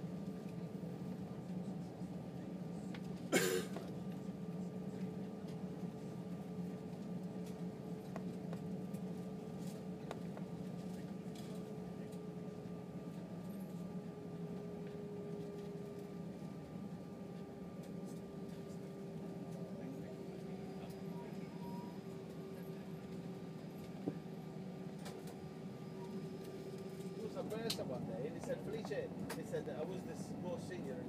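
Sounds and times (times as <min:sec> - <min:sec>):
jet engines idling hum: 0:00.0 - 0:31.0
faint steady whine: 0:03.9 - 0:31.0.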